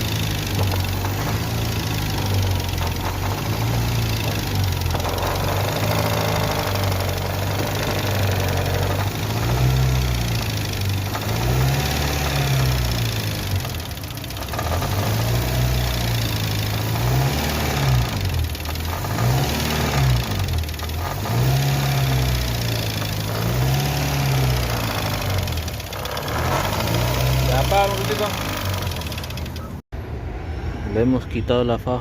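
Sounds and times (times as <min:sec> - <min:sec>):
car engine revving: 0:00.0 - 0:29.8.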